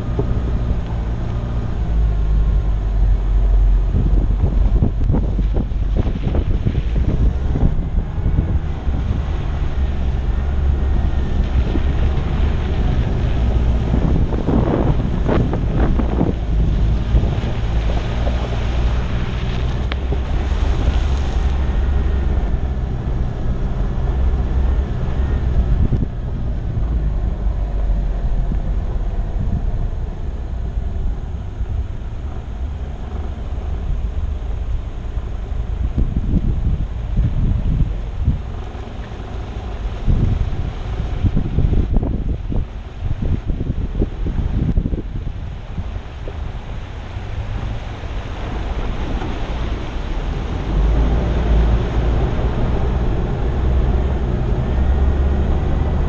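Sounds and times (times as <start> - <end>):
engine and tyres rumbling on gravel: 0.0 - 56.0
wind buffeting microphone: 0.0 - 56.0.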